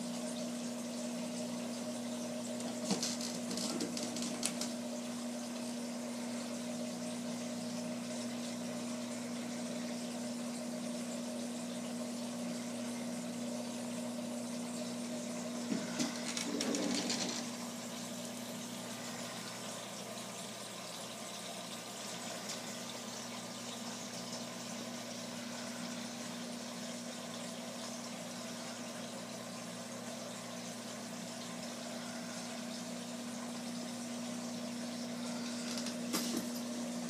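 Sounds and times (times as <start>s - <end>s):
aquarium pumps humming: 0.0s - 37.0s.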